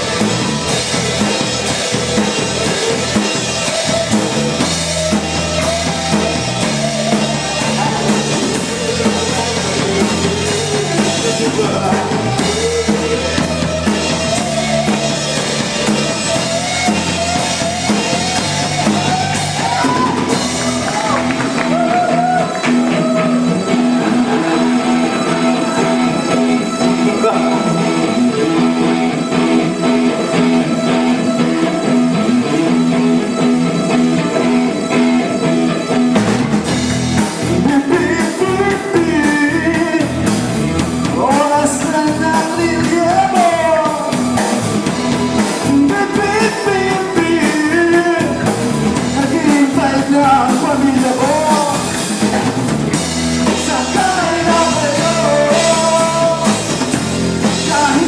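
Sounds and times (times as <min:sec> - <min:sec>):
drums beat: 0:00.0 - 0:58.0
guitar chords: 0:00.0 - 0:58.0
person singing: 0:04.6 - 0:35.5, 0:37.4 - 0:52.2, 0:53.4 - 0:58.0.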